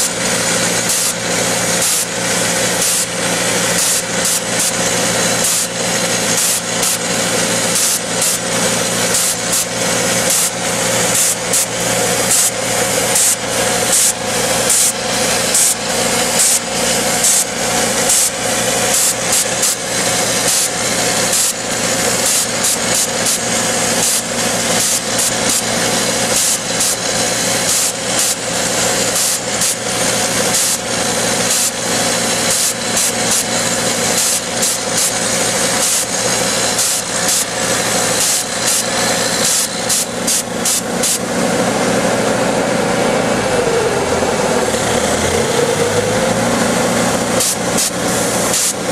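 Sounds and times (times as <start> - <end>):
rock drill hammering: 0.0 - 41.4, 44.6 - 48.9
tractor engine drone: 0.0 - 48.9.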